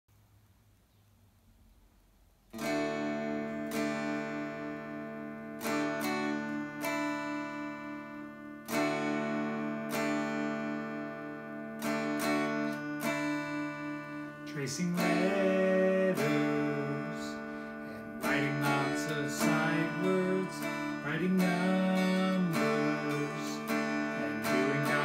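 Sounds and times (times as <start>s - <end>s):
electric guitar chords ringing: 2.5s - 25.0s.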